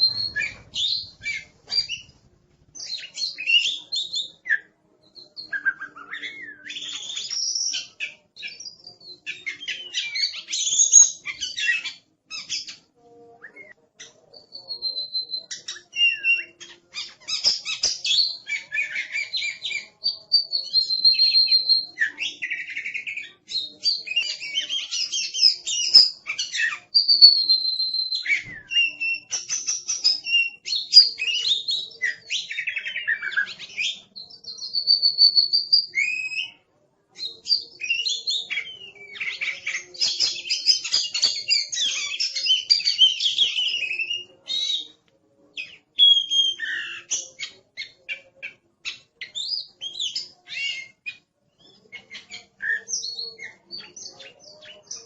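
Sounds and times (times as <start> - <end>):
bird singing: 0.0 - 2.2, 2.8 - 36.6, 37.2 - 55.0.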